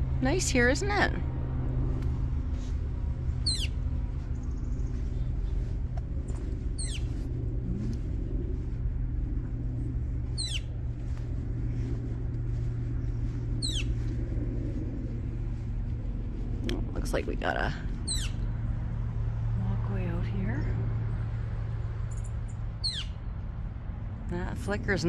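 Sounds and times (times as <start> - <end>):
distant traffic rumble: 0.0 - 25.0.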